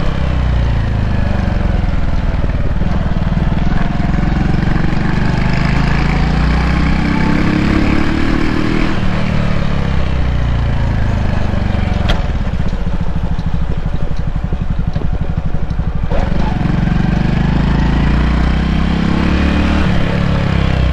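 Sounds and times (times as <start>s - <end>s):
motorcycle engine: 0.0s - 20.9s.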